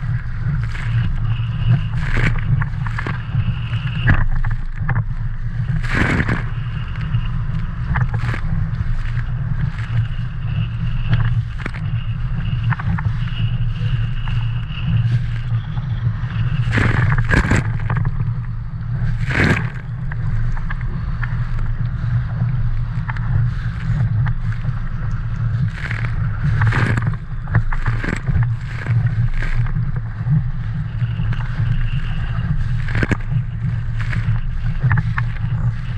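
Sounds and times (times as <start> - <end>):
water splashing against hull: 0.0 - 35.9
wind rumbling on microphone: 0.0 - 35.9.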